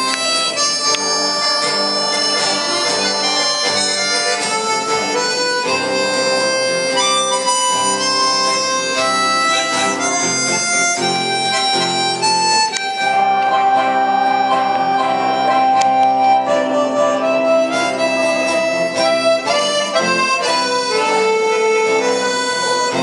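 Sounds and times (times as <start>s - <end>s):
guitar accompaniment: 0.0s - 23.0s
harmonicas playing melody: 0.0s - 23.0s.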